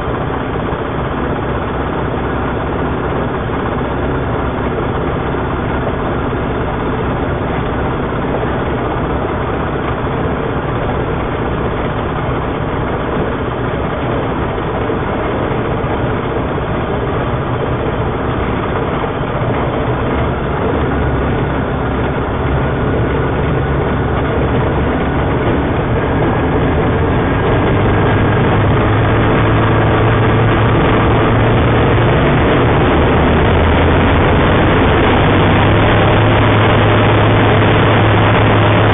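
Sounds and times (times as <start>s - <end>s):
aircraft engine and propeller: 0.0s - 38.9s.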